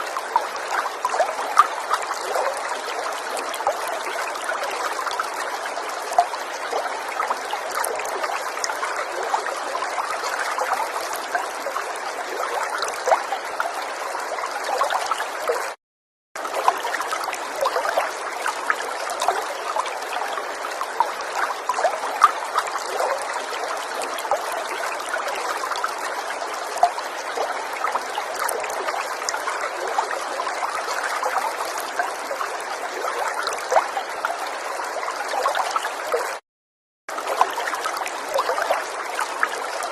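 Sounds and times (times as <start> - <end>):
river water babbling over stones: 0.0 - 15.7, 16.4 - 36.4, 37.1 - 39.9.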